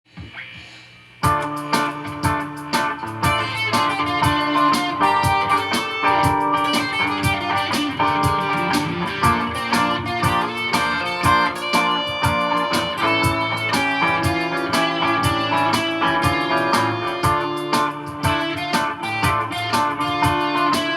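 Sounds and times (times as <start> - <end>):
jazz guitar playing: 1.2 - 20.9.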